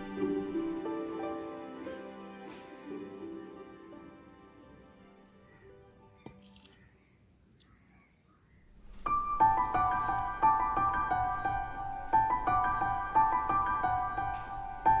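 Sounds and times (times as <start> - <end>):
background piano music: 0.0 - 6.5, 8.7 - 15.0.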